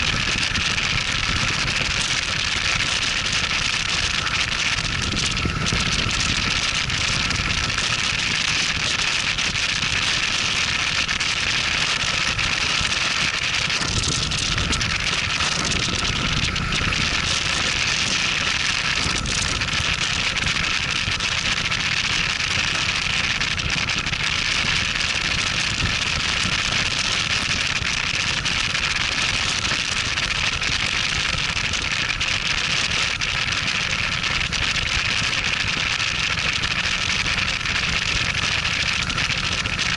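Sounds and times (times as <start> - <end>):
motorcycle engine rumble: 0.0 - 39.9
wind rush over microphone: 0.0 - 39.9.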